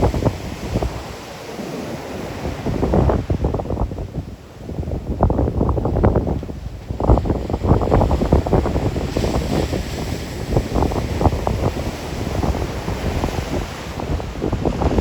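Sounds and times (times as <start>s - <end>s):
storm surf breaking on beach: 0.0s - 15.0s
wind buffeting microphone: 0.0s - 15.0s.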